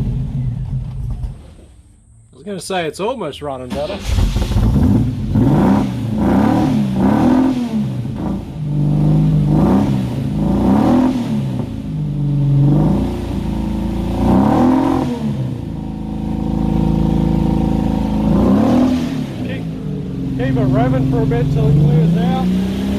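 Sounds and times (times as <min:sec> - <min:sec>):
car engine revving: 0:03.7 - 0:22.9.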